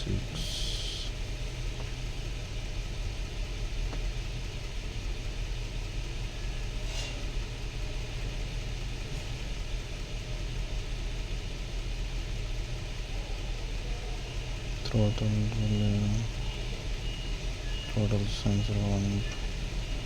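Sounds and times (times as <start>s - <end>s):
car engine idling with misfires: 0.0s - 20.0s.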